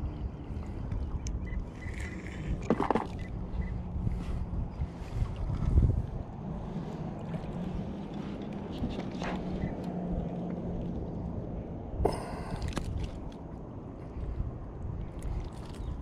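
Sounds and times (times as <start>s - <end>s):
steady low hum: 0.0s - 16.0s
wind on microphone: 0.0s - 16.0s.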